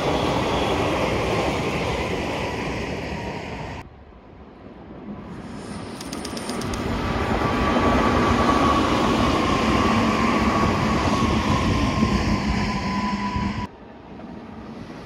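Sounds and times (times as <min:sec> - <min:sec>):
train rumbling past: 0:00.0 - 0:15.0
train whine: 0:00.0 - 0:15.0.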